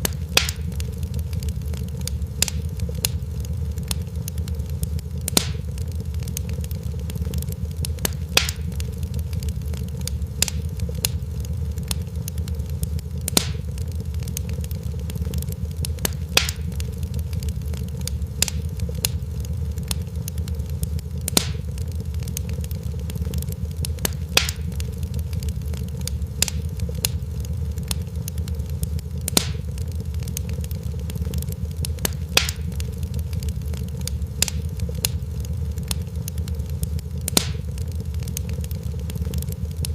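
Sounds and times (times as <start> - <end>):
fireplace fire crackling: 0.0 - 39.9
sharp fire pops: 0.0 - 39.9
steady low rumble: 0.0 - 39.9.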